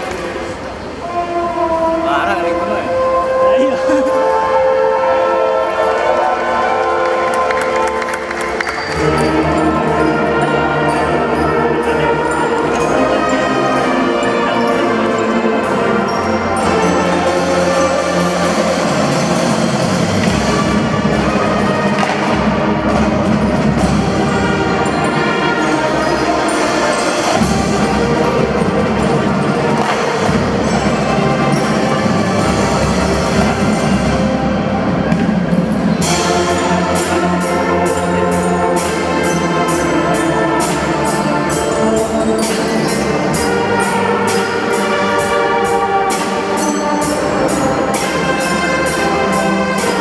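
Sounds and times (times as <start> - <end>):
sustained melodic instruments: 0.8 - 50.0
marching drums: 1.1 - 50.0.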